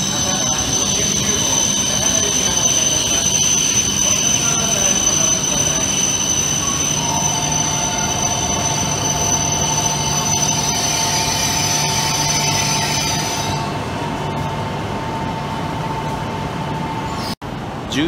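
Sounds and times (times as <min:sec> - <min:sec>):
train wheel squeal: 0:00.0 - 0:14.4, 0:16.9 - 0:17.4
train whine and hum: 0:00.0 - 0:17.9.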